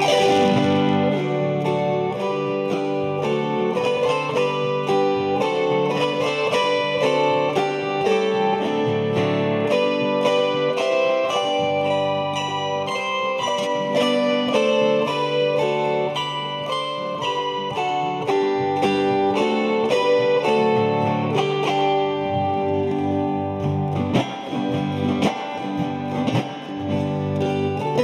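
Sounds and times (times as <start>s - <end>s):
zither ensemble playing a hymn: 0.0s - 28.0s.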